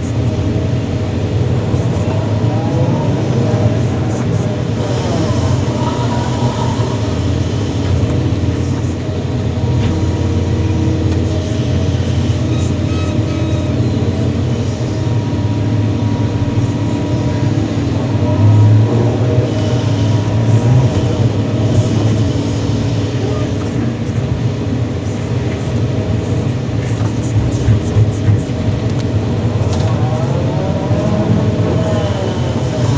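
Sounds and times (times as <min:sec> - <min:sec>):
excavator engine and hydraulics: 0:00.0 - 0:32.9.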